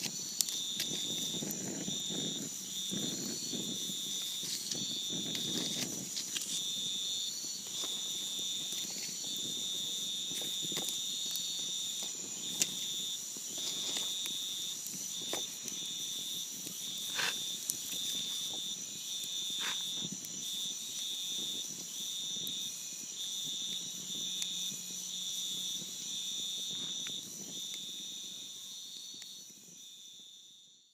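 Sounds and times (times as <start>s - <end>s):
campfire crackling and popping: 0.0s - 29.8s
low insect trill: 0.0s - 30.9s
night insects droning: 0.0s - 30.9s.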